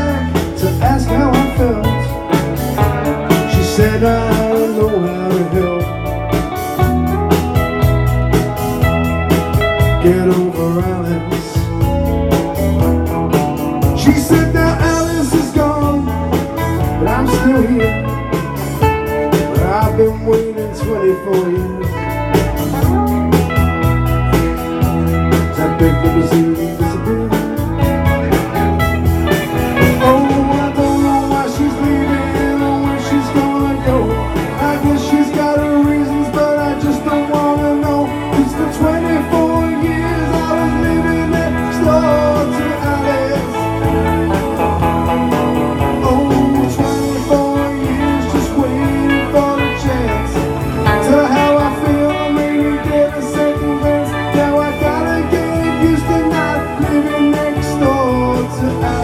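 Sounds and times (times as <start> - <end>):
guitar: 0.0 - 59.0
live band music: 0.0 - 59.0.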